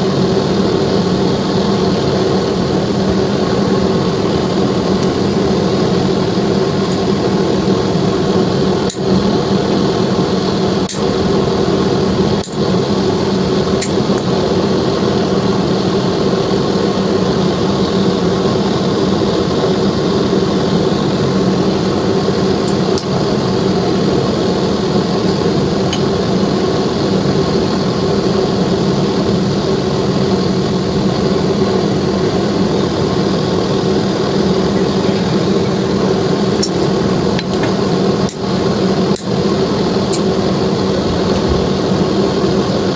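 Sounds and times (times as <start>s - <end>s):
loud mechanical hum: 0.0s - 42.9s.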